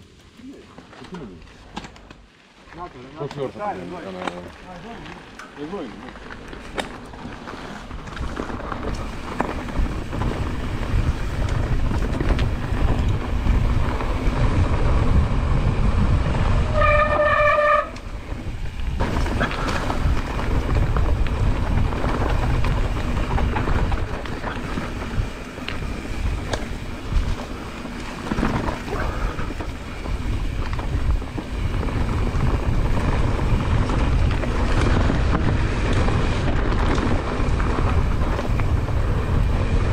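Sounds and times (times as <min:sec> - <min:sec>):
bike tyres rumbling on dirt: 0:00.0 - 0:39.9
wind buffeting microphone: 0:05.6 - 0:39.9.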